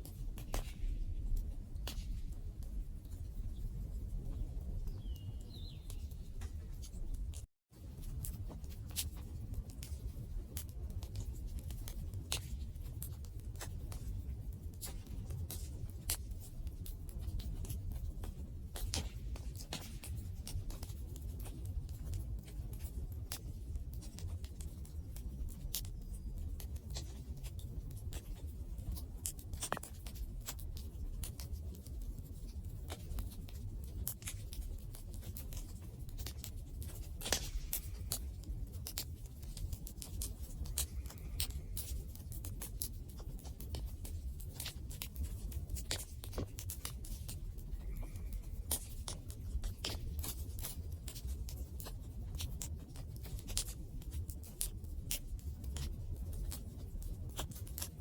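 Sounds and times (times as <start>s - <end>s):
campfire wood crackling and popping: 3.2s - 58.0s.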